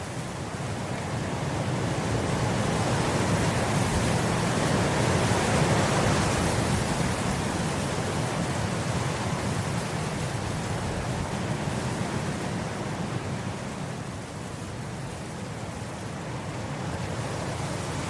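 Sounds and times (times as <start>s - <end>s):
wind blowing across grass: 0.0s - 18.0s.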